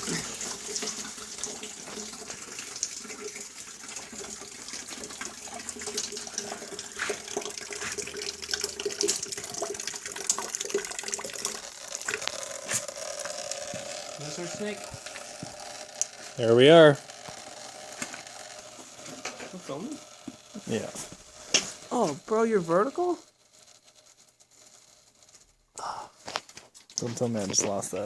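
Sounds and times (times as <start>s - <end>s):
water running down a drain: 0.0s - 22.9s.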